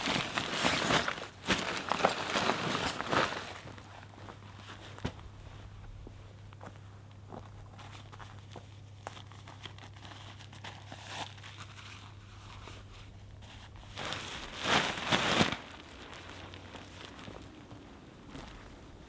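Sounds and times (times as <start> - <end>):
low steady hum: 0.0 - 19.0
material crinkling and rustling: 0.0 - 19.0.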